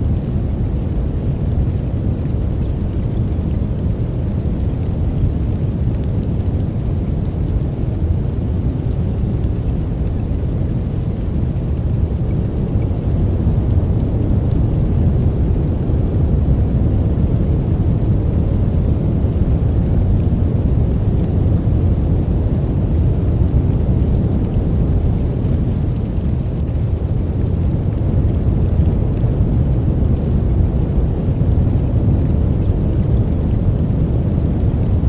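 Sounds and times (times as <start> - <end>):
deep rushing brown noise: 0.0 - 35.0.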